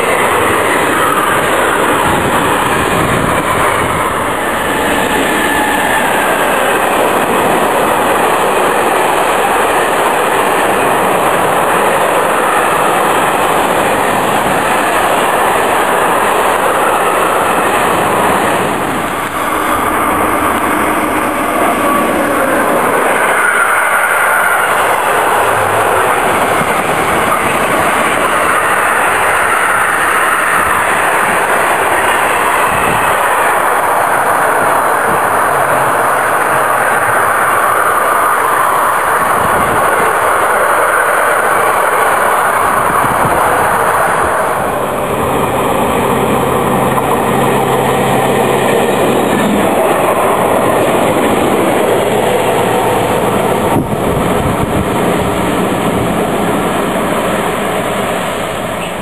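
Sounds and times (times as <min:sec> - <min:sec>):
freight train wagons rumbling: 0:00.0 - 0:59.0.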